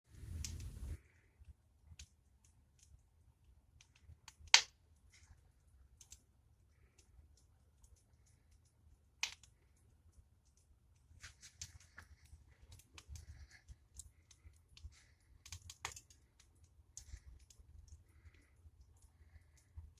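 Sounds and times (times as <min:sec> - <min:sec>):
fire crackling: 0:00.1 - 0:19.9
fire popping: 0:00.1 - 0:19.9.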